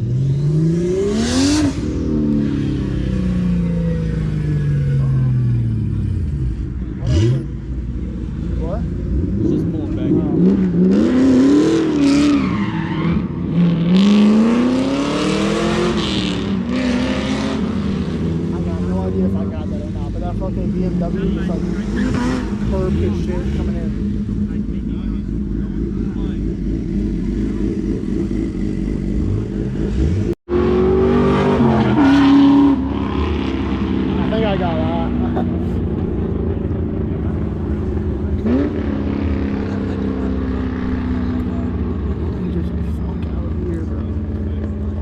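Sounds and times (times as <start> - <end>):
car engine rumble: 0.0 - 45.0
tyre and road noise: 0.0 - 45.0.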